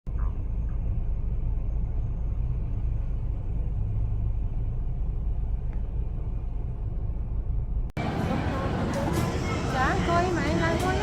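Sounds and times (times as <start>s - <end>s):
vehicle interior rumble: 0.1s - 11.0s.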